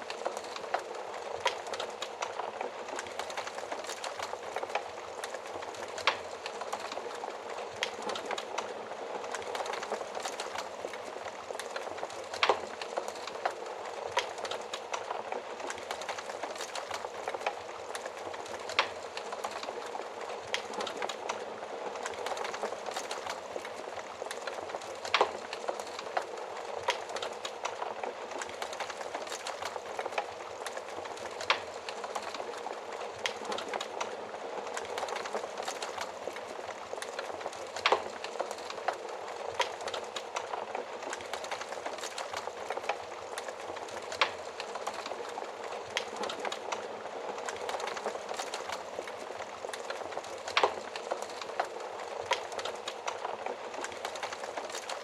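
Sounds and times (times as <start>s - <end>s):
fire hissing and crackling: 0.0s - 55.0s.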